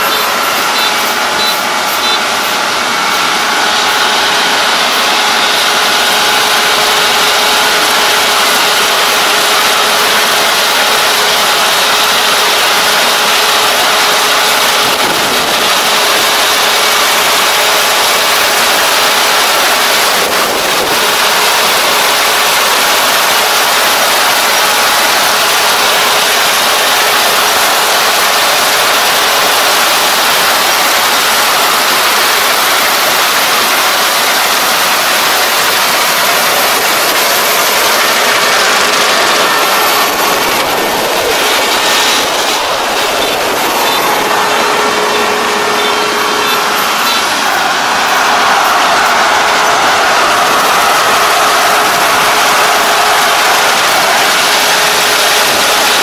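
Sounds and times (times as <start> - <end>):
combine harvester running: 0.0 - 56.0
steady machine whine: 0.0 - 56.0.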